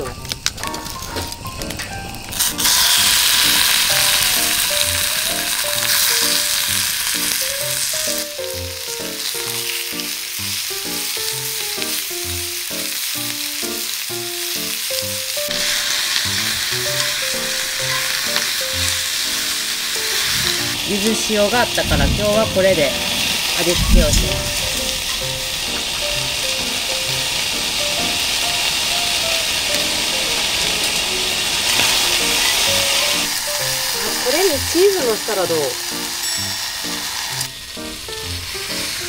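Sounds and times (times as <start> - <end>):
chicken sizzling in hot oil: 0.0 - 39.0.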